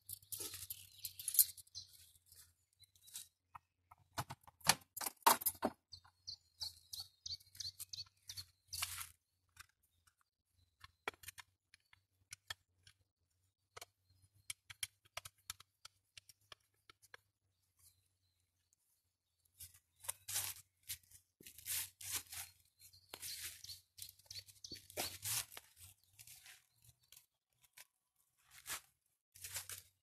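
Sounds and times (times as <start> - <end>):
small bird chirping: 0.0 - 4.0, 5.8 - 21.2, 22.1 - 27.9.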